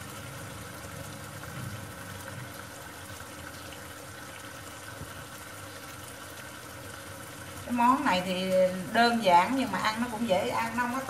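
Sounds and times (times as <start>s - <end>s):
glaze simmering in a frying pan: 0.0s - 11.0s.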